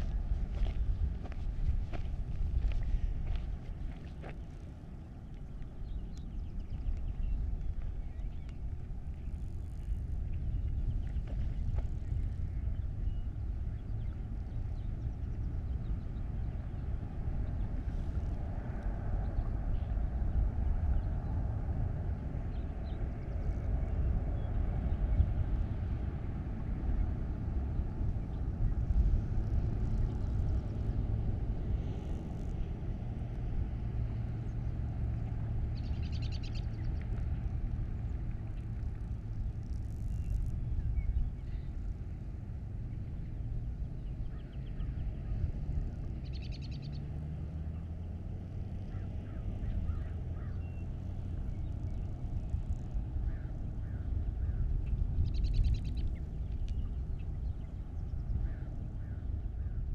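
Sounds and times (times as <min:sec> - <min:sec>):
low street rumble: 0:00.0 - 0:59.9.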